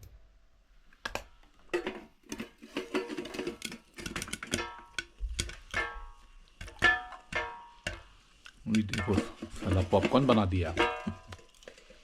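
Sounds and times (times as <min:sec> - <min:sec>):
popcorn popping in a pan: 0:01.0 - 0:12.0.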